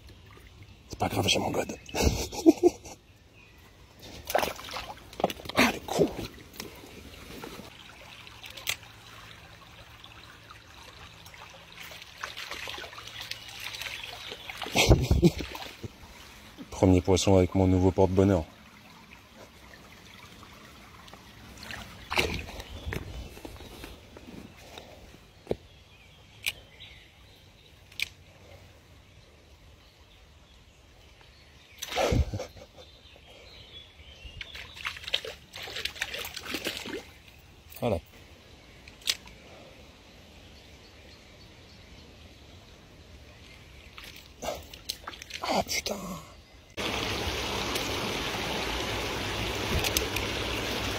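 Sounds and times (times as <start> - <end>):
stream trickling over rocks: 0.0 - 1.9, 3.5 - 32.0, 34.3 - 50.9.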